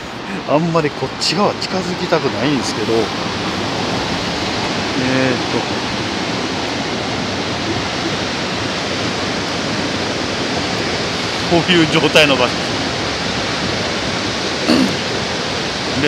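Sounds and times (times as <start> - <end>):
water rushing at a dam: 0.0 - 16.0.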